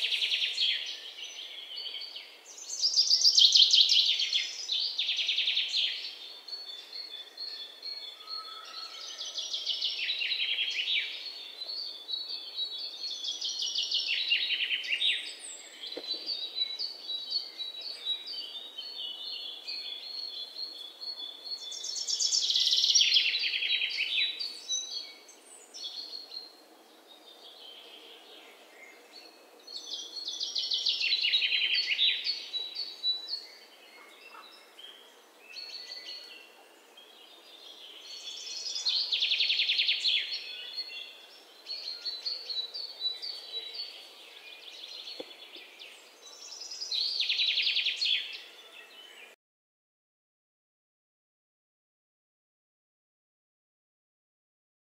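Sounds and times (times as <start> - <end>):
background bird chirps: 0.0 - 49.4
songbirds trilling: 0.0 - 49.4.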